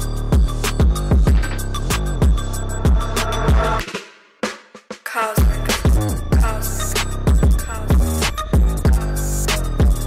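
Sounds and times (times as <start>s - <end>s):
music with deep bass and drums: 0.0s - 10.0s.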